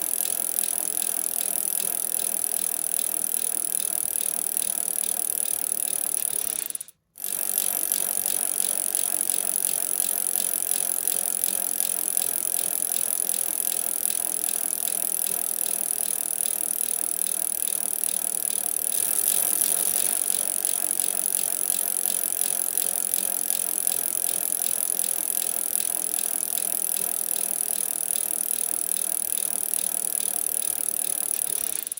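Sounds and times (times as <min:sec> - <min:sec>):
bicycle chain ticking rattle: 0:00.0 - 0:31.9.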